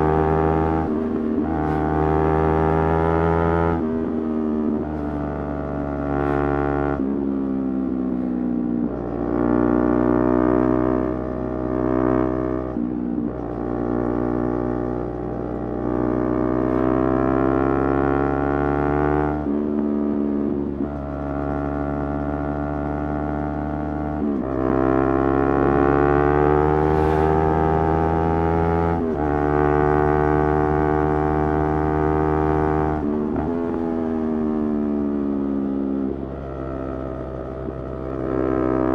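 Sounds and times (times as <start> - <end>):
motorcycle engine revving: 0.0 - 7.4, 13.4 - 38.9.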